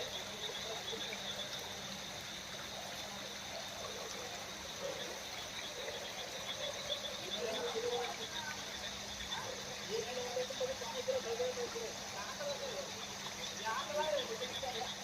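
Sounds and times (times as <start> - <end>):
rainwater trickling: 0.0 - 15.0.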